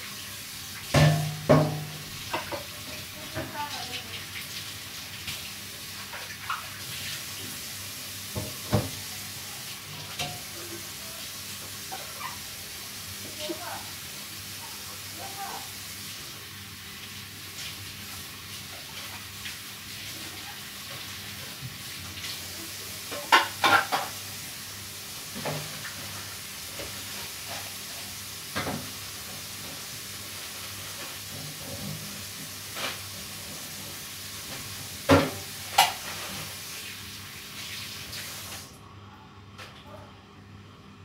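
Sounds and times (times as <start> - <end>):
food sizzling in a pan: 0.0 - 38.7.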